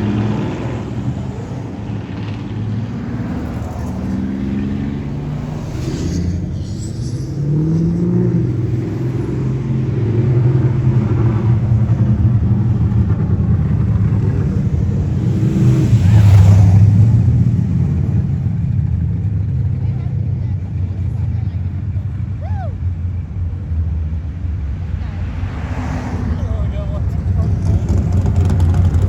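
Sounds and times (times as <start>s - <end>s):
cars driving past: 0.0s - 29.0s
loud car passing: 0.0s - 29.0s.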